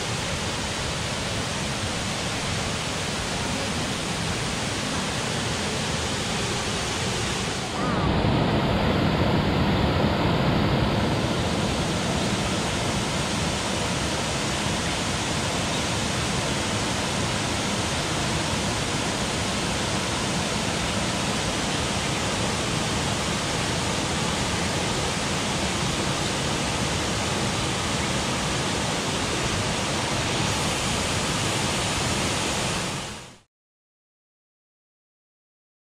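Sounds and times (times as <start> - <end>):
fast-flowing water rushing: 0.0 - 33.5.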